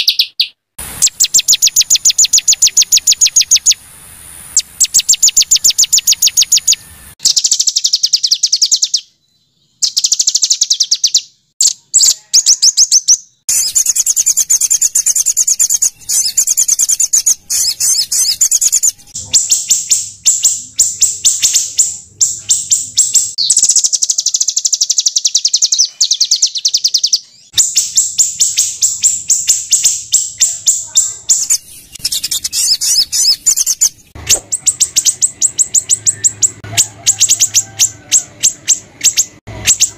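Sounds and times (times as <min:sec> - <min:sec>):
songbirds chattering trills: 0:00.0 - 0:03.9, 0:04.5 - 0:39.9.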